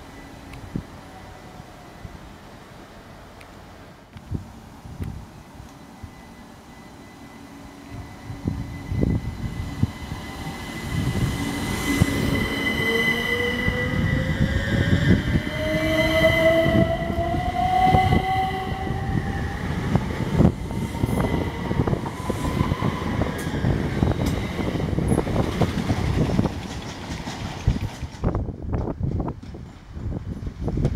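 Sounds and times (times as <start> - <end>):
wheels rumbling on rail: 0.0 - 30.9.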